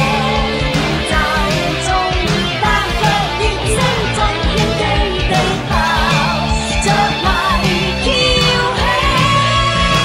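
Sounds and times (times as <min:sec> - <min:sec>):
pop band with drums and bass: 0:00.0 - 0:10.0
woman singing: 0:00.0 - 0:10.0.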